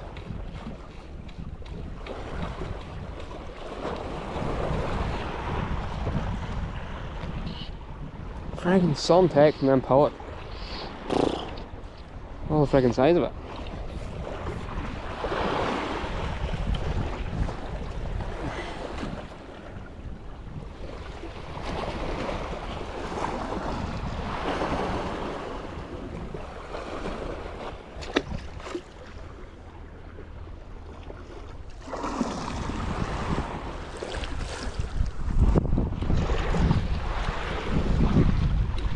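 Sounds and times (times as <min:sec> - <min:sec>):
wind on microphone: 0:00.0 - 0:29.2, 0:31.8 - 0:38.9
sea waves lapping: 0:00.0 - 0:38.9.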